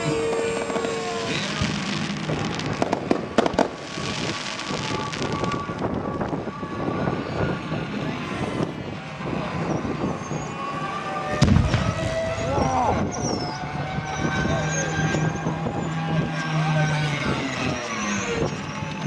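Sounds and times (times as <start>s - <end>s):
fireworks banging and crackling: 0.0s - 19.0s.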